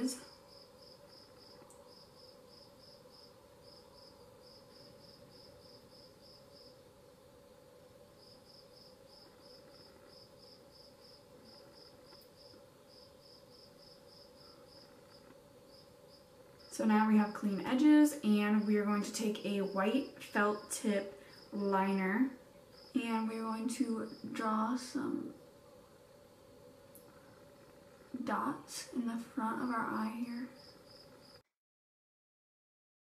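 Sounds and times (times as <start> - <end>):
faint cricket chirping: 0.0 - 31.5.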